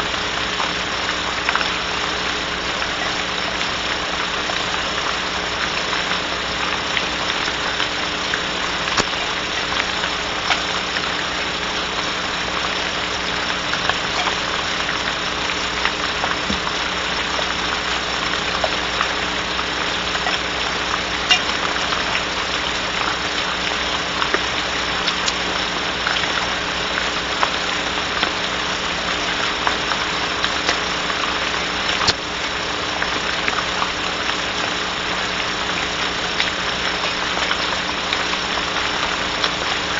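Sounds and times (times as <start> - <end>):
electrical hum: 0.0 - 39.9
rain pattering on wood: 0.0 - 39.9.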